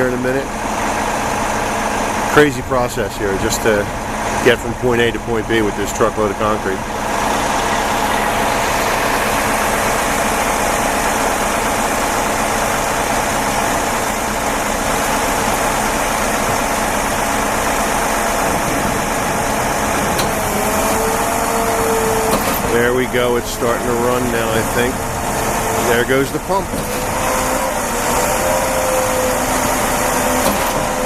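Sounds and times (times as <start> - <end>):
pump whine: 0.0 - 31.0
truck engine idling: 0.0 - 31.0.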